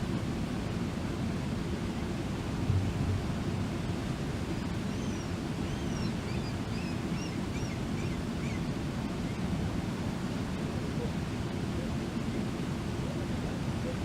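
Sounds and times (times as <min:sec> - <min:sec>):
waterfall roaring: 0:00.1 - 0:14.0.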